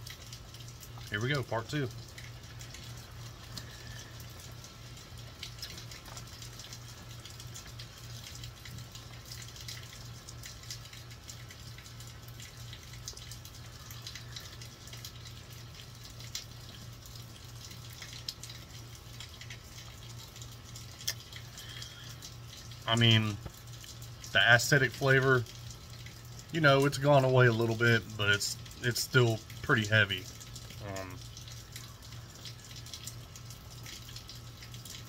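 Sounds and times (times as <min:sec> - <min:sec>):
drops dripping and ticking: 0:00.0 - 0:35.0
low steady hum: 0:00.0 - 0:35.0
rain falling: 0:00.0 - 0:35.0.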